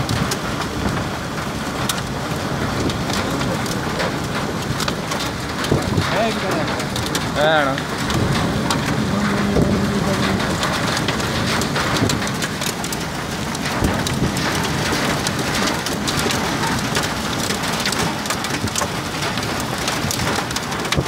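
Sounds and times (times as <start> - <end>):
heavy rain: 0.0 - 21.0
sharp raindrop hits: 0.0 - 21.0.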